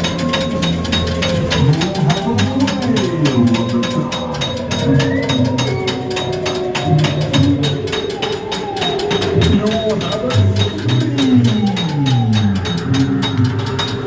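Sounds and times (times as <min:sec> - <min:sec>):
fairground ride music: 0:00.0 - 0:14.0.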